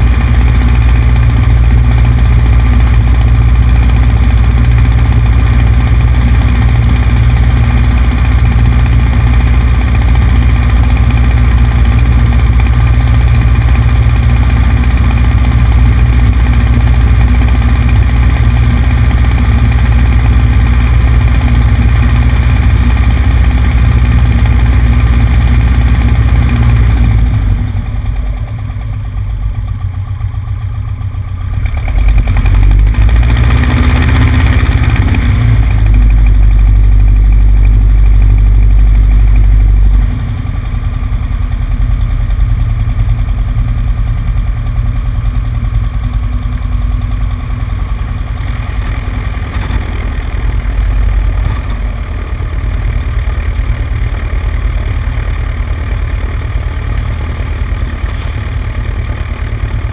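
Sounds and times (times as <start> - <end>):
propeller plane engine running: 0.0 - 59.9.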